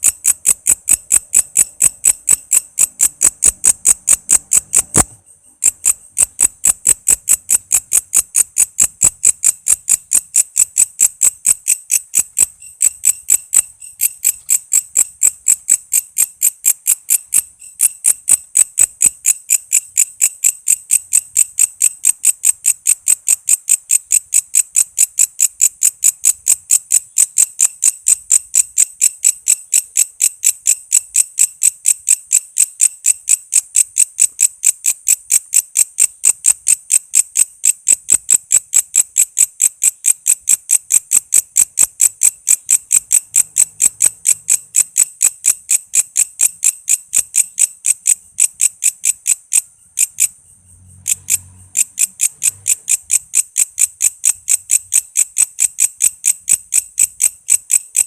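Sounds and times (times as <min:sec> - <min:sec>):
bush cricket chirping: 0:00.0 - 0:58.0.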